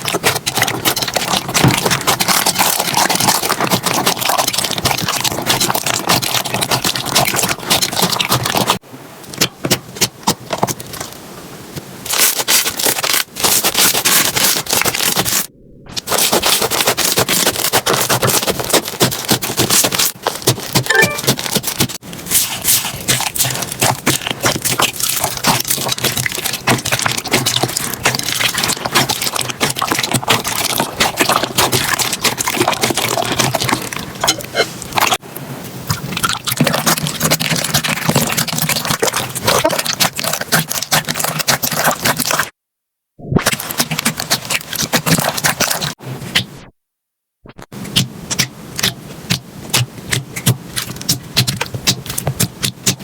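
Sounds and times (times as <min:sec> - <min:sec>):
slime crackling and squelching: 0:00.0 - 0:11.2, 0:12.0 - 0:35.2, 0:35.9 - 0:42.6, 0:43.2 - 0:46.7, 0:47.5 - 0:53.0.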